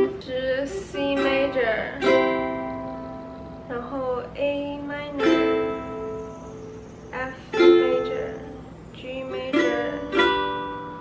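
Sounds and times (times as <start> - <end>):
ukulele strummed slowly: 0.0 - 3.9, 4.6 - 11.0.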